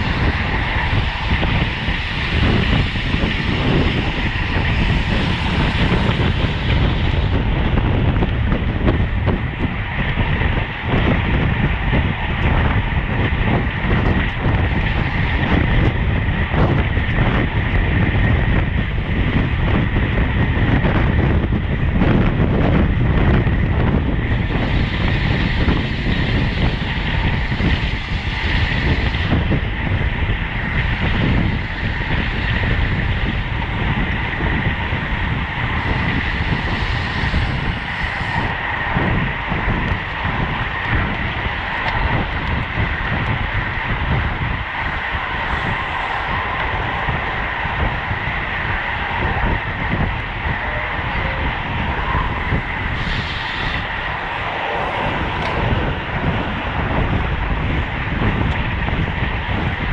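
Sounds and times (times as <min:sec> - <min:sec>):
road and tyre rumble: 0:00.0 - 0:59.9
wind buffeting microphone: 0:00.0 - 0:59.9.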